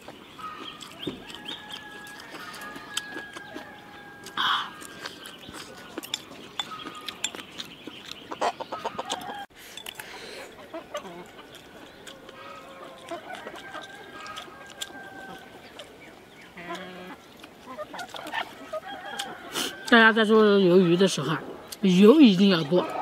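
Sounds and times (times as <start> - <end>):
person chewing: 0.0 - 20.0
chicken clucking: 0.4 - 9.5, 10.4 - 19.9.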